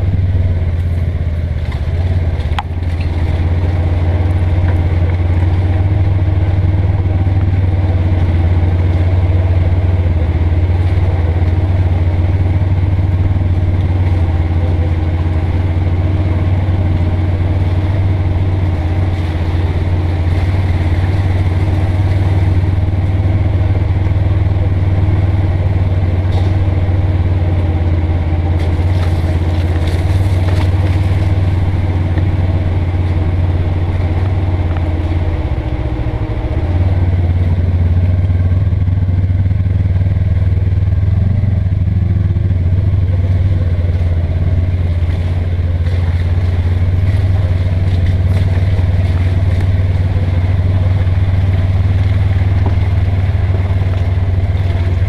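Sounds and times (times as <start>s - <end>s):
engine droning steadily: 0.0s - 55.0s.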